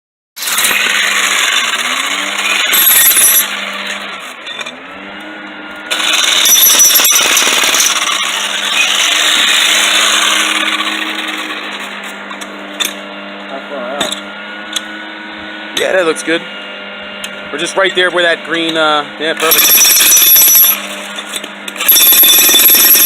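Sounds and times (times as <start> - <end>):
electric demolition hammer: 0.4 - 16.1, 17.1 - 23.0.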